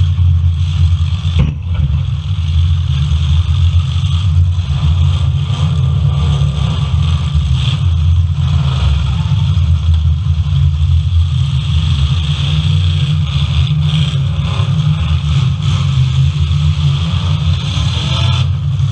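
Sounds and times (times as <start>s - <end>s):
car engines rumbling and revving: 0.0s - 18.9s.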